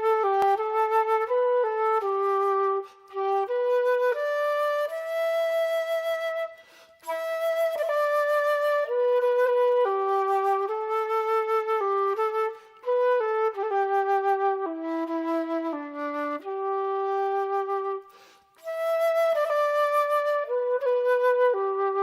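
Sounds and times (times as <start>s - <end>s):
solo flute melody: 0.0s - 22.0s.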